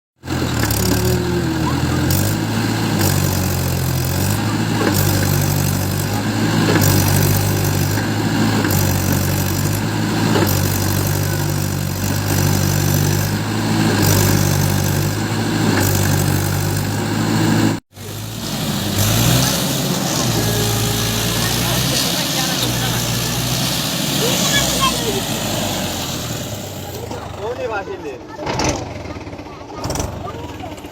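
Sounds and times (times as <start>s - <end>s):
tractor diesel engine running: 0.2s - 30.9s.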